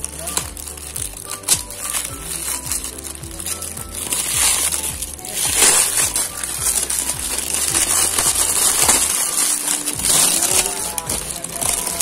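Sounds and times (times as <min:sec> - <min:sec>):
background music with beat: 0:00.0 - 0:12.0
cardboard tearing and crumpling: 0:00.0 - 0:12.0.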